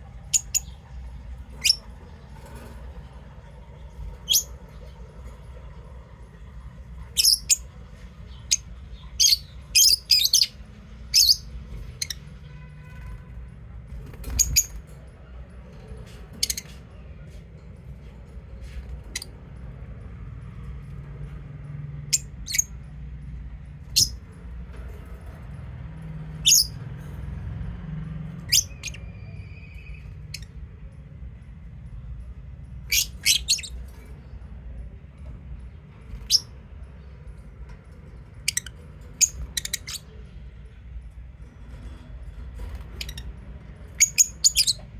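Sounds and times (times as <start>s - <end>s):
birds chirping high-pitched: 0.0s - 31.5s, 32.3s - 44.9s.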